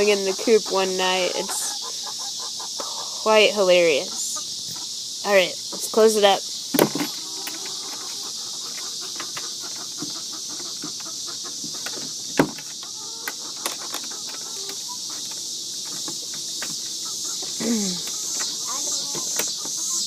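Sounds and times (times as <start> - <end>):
hens clucking: 0.0 - 20.0
insects chirring: 0.0 - 20.0.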